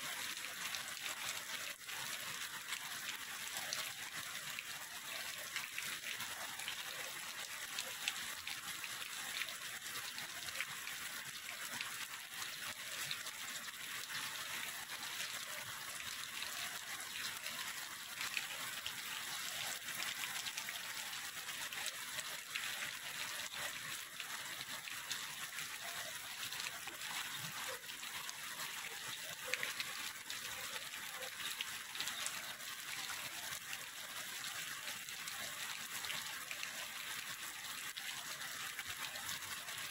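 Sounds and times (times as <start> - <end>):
water rushing in canal: 0.0 - 39.9.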